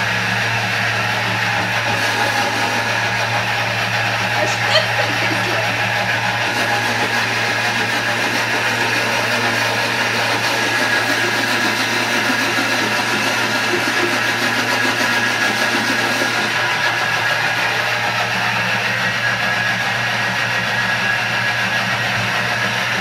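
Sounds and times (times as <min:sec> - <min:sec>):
food processor blending: 0:00.0 - 0:23.0.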